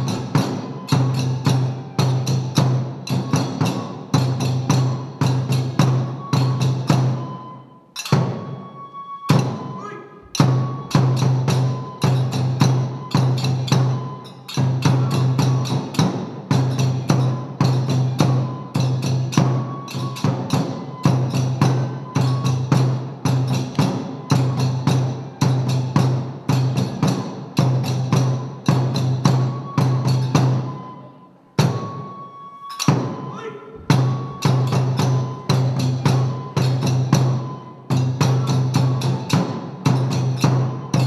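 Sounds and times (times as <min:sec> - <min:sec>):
bamboo flute notes: 0:00.0 - 0:41.0
hand cymbals: 0:00.0 - 0:41.0
taiko drum: 0:00.0 - 0:41.0.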